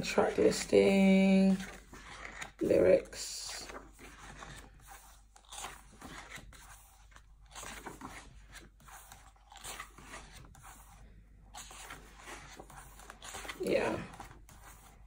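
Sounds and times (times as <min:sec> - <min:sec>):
paper pages rustling: 0:00.5 - 0:15.0.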